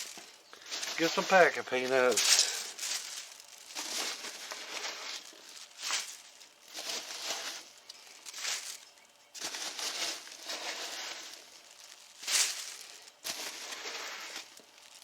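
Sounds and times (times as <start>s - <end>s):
packing peanuts rustling: 0.0s - 15.0s.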